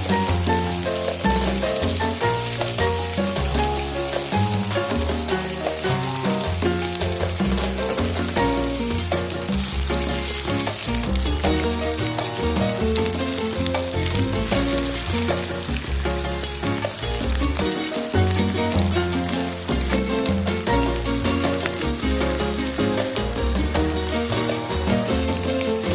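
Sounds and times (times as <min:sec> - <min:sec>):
background music with bass line: 0:00.0 - 0:25.9
food sizzling in hot oil: 0:00.0 - 0:25.9.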